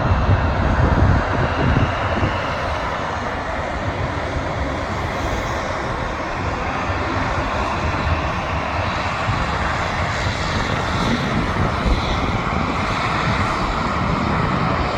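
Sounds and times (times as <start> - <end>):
turboprop engines running: 0.0 - 14.9.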